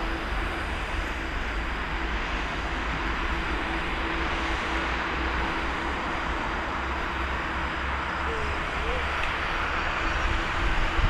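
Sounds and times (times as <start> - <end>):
distant jet engines at takeoff: 0.0 - 11.0.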